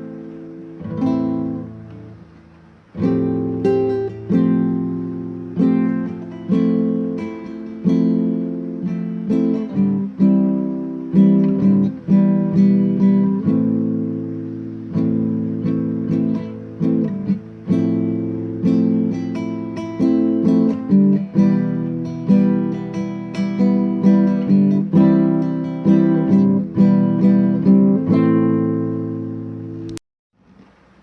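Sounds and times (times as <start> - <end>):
acoustic guitar chords: 0.0 - 31.0.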